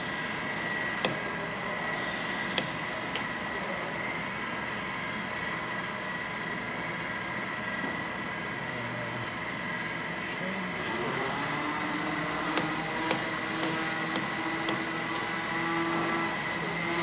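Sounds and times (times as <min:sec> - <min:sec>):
mill spindle whining: 0:00.0 - 0:08.3, 0:09.5 - 0:17.0.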